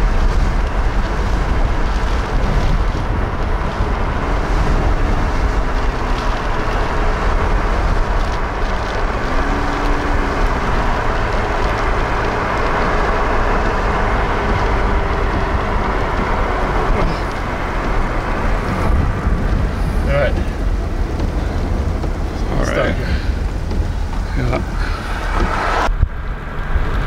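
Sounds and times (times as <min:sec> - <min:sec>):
wind and vehicle noise: 0:00.0 - 0:27.0.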